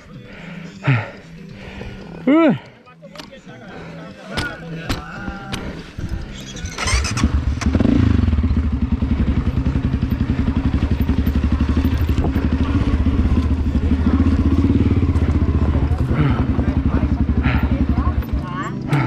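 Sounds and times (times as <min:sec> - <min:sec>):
motorcycle engine idling: 0:03.2 - 0:19.0.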